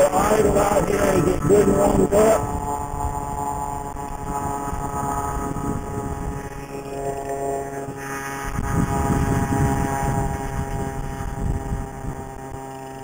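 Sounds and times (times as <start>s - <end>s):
rushing wind noise: 0.0s - 12.9s
scooter two-stroke engine running: 0.0s - 13.0s.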